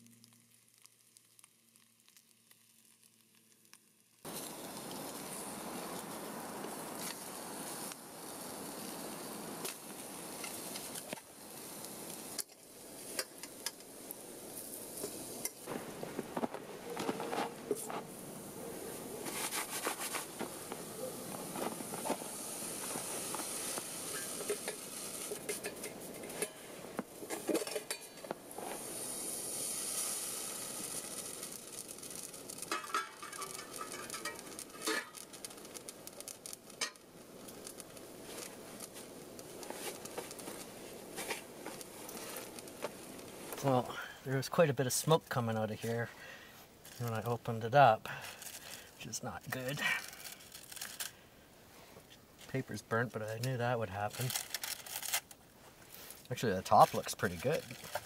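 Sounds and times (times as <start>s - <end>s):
bacon sizzling in a frying pan: 0.0s - 45.4s, 53.0s - 58.0s
crackling campfire: 0.0s - 58.0s.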